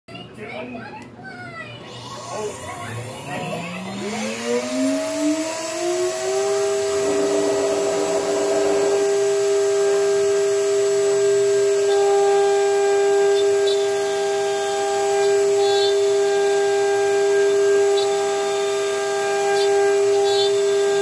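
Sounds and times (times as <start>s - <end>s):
router spindle whine: 1.8s - 21.0s.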